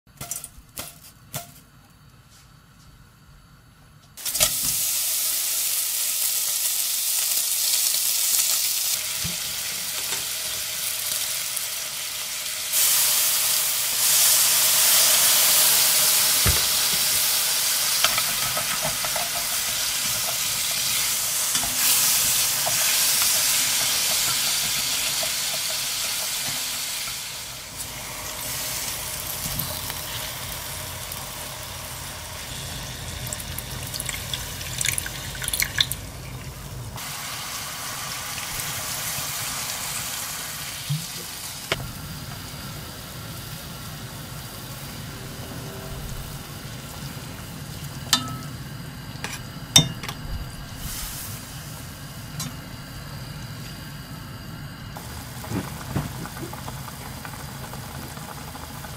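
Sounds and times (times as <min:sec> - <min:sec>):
pork sizzling in a pot: 0:04.2 - 0:58.9.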